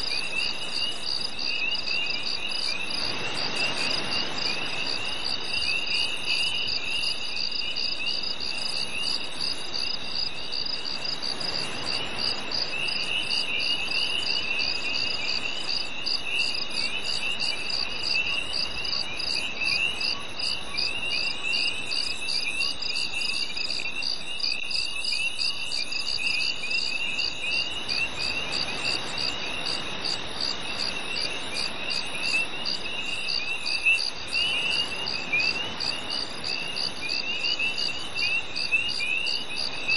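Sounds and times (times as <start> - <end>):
high pulsing cricket chirps: 0.0 - 39.9
lower scratchy cricket chirps: 0.0 - 39.9.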